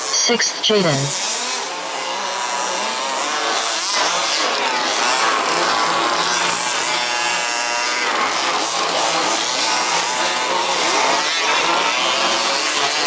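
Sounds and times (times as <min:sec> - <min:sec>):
small two-stroke engines revving: 0:01.1 - 0:13.0.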